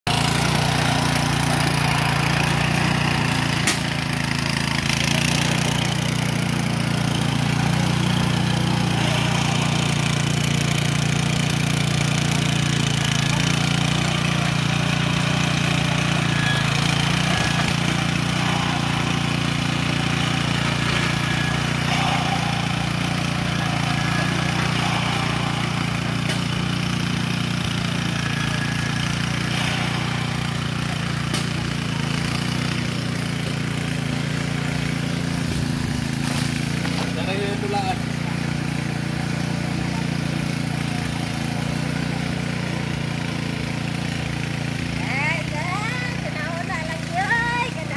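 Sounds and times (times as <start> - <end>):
garden tiller engine running: 0.0 - 47.9.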